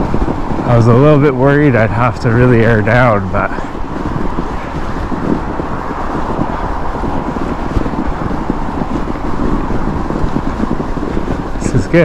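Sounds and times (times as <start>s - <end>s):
studded tires rolling on snow: 0.0s - 12.0s
wind rushing over microphone: 0.0s - 12.0s.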